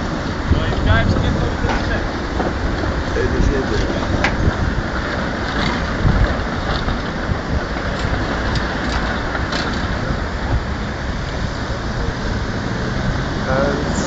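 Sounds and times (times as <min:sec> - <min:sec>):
city traffic hum: 0:00.0 - 0:14.0
wind buffeting microphone: 0:00.0 - 0:14.0.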